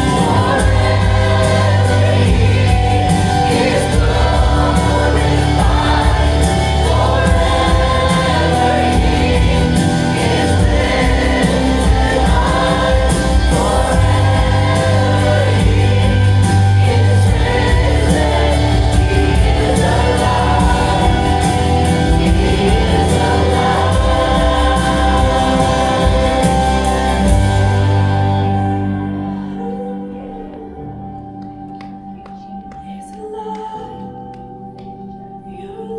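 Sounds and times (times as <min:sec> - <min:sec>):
band with sustained bass: 0:00.0 - 0:31.4
choir and congregation singing: 0:00.0 - 0:32.0.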